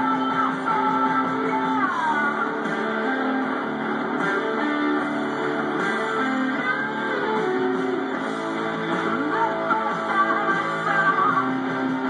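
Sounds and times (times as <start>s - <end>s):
guitar music through speakers: 0.0s - 12.0s.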